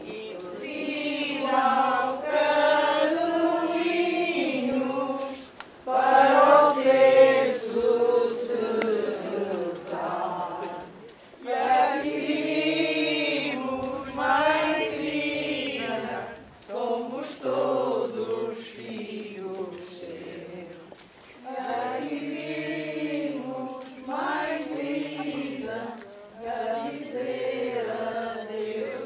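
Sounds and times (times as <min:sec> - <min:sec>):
crowd singing a hymn: 0:00.0 - 0:29.0.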